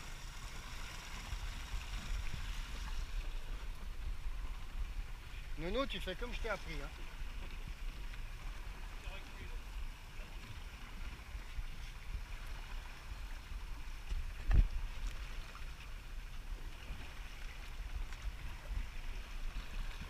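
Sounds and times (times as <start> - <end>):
water lapping: 0.0 - 20.0
wind rumble on microphone: 0.0 - 20.0.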